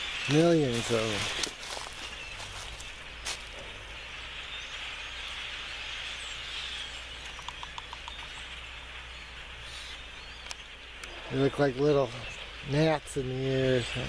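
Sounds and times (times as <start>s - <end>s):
flock of birds chattering: 0.0s - 14.0s.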